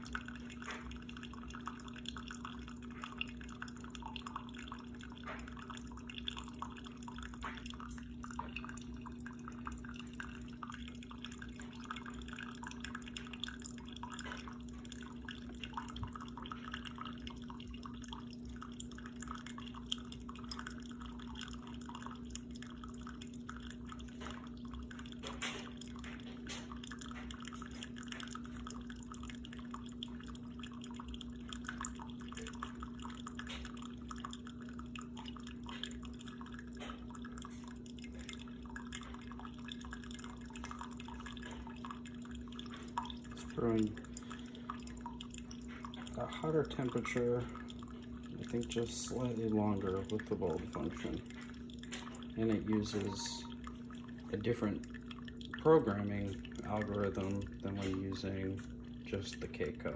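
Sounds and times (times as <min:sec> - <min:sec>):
coffee dripping into cup: 0:00.0 - 0:59.9
coffee machine humming: 0:00.0 - 0:59.9.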